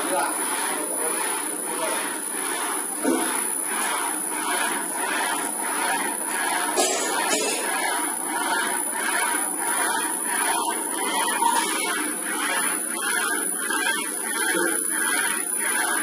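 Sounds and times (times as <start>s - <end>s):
factory machinery humming: 0.0s - 16.0s.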